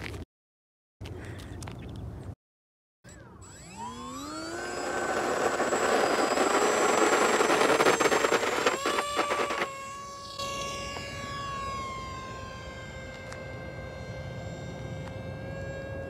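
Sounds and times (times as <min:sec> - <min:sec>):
electric model plane motor whine: 0:03.1 - 0:16.0.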